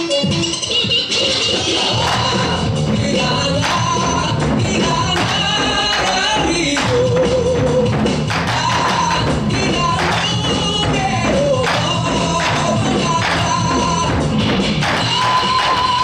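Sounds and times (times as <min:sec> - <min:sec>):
recorded backing music: 0:00.0 - 0:16.0
group drumming: 0:01.0 - 0:16.0.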